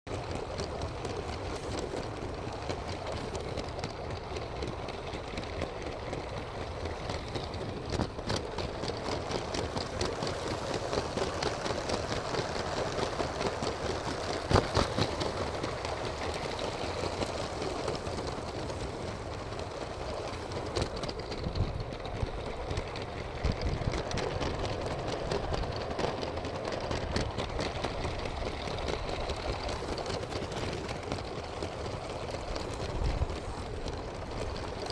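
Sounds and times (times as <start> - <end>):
light clicks from wheels and track: 0.1 - 34.9.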